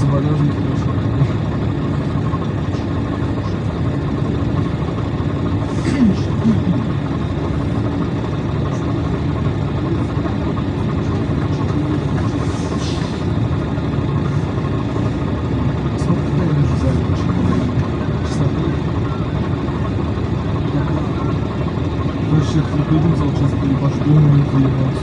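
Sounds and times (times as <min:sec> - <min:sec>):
bus engine drone: 0:00.0 - 0:25.0.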